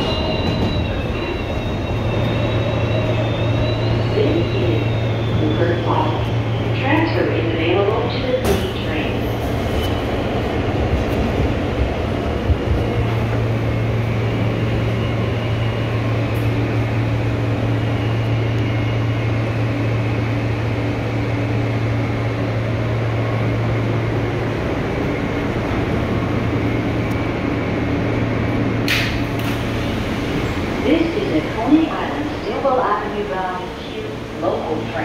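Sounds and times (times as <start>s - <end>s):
subway car low hum: 0.0s - 35.0s.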